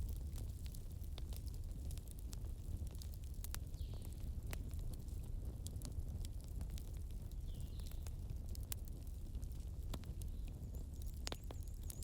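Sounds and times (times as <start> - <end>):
fire crackling in fireplace: 0.0 - 12.0.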